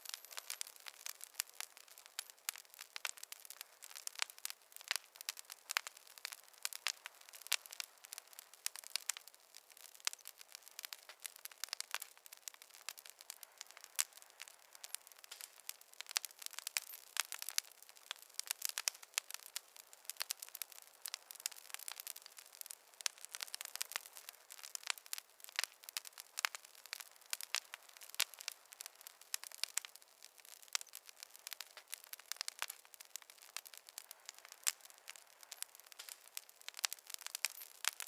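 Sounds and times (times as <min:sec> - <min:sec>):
faint hiss: 0:00.0 - 0:38.0
wood fire popping and snapping: 0:00.0 - 0:38.0.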